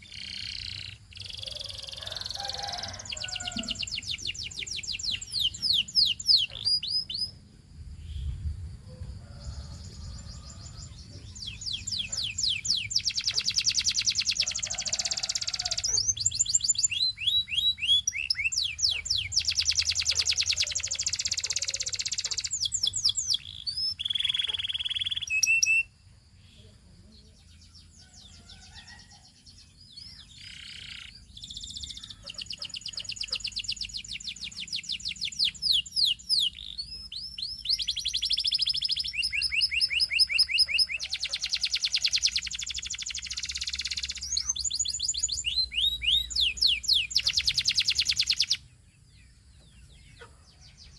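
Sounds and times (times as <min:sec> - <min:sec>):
canary singing trills: 0:00.0 - 0:08.6, 0:09.2 - 0:50.9.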